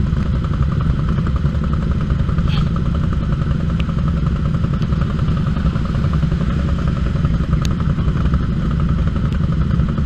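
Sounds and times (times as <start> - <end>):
utility vehicle engine running: 0.0 - 10.0.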